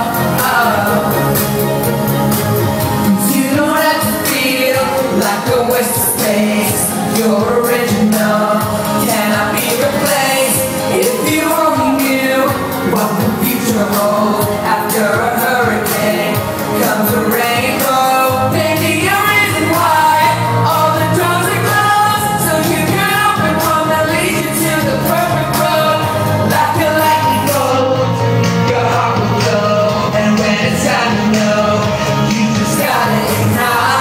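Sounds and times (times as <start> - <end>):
heavy bass line: 0.0 - 34.0
person singing: 0.0 - 34.0
pop band playing: 0.0 - 34.0.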